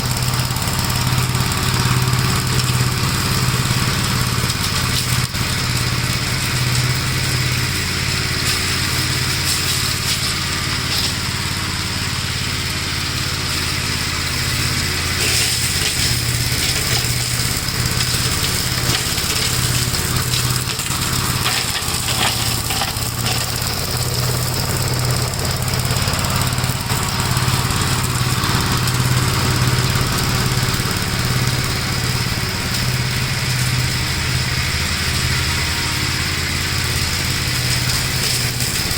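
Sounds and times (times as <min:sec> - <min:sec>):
mower mulching nuts: 0:00.0 - 0:38.9
small tractor engine running: 0:00.0 - 0:38.9.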